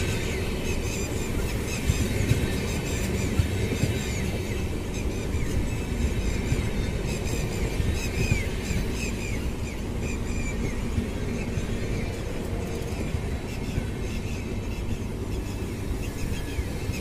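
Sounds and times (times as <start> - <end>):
train wheels rumbling over rail joints: 0.0 - 17.0.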